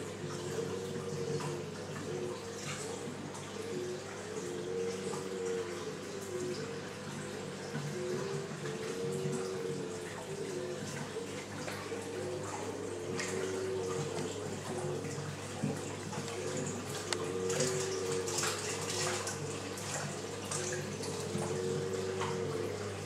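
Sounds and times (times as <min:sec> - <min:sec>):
pump hum: 0:00.0 - 0:23.0
water running and splashing: 0:00.0 - 0:23.0.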